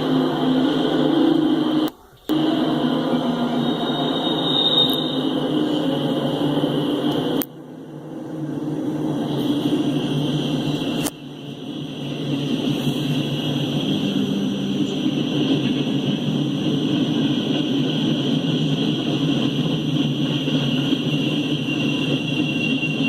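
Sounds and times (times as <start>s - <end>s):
diesel locomotives rumbling: 0.0s - 23.0s.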